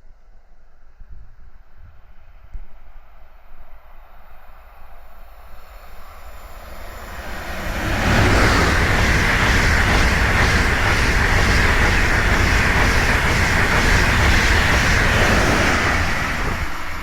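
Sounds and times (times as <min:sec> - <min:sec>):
high-speed trains passing: 0:00.0 - 0:17.0.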